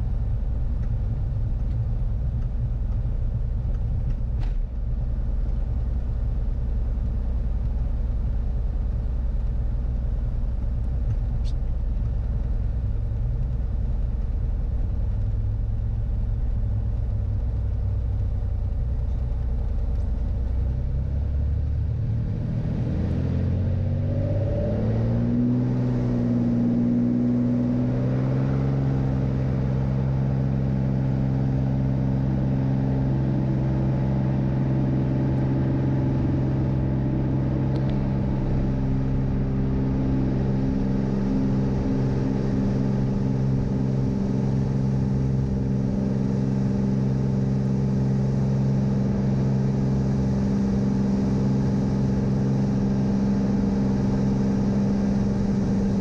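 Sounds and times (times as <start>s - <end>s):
aircraft piston engine and propeller: 0.0s - 56.0s.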